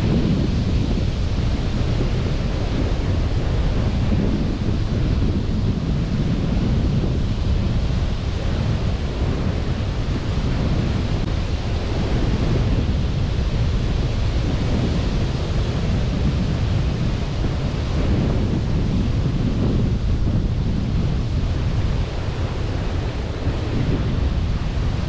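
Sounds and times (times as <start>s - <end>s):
sea surf washing on beach: 0.0s - 25.0s
wind rumbling on microphone: 0.0s - 25.0s.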